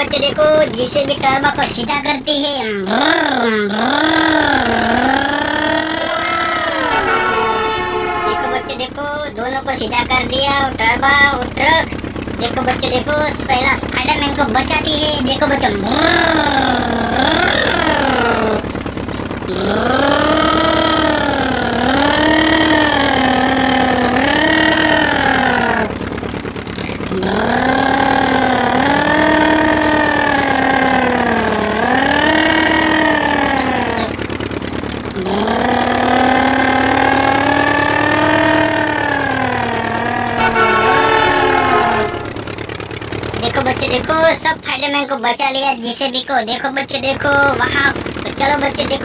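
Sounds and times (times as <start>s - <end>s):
engine-like revving sound: 2.9s - 44.6s.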